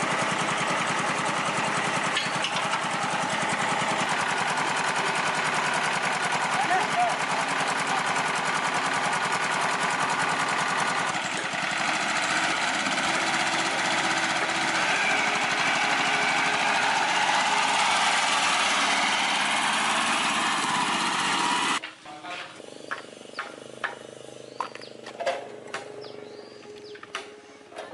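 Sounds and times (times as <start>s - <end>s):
motor-driven machine pulsing: 0.0s - 21.8s, 22.5s - 27.0s.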